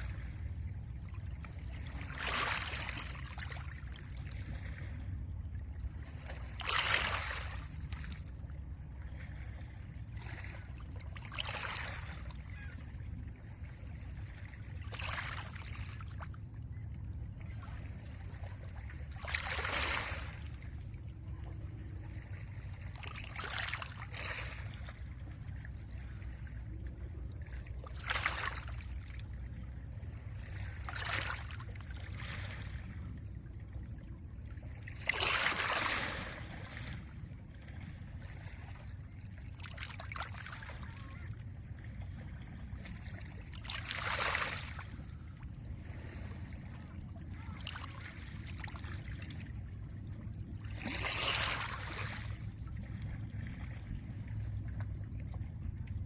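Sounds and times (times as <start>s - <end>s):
low rumble of wind and water: 0.0s - 56.0s.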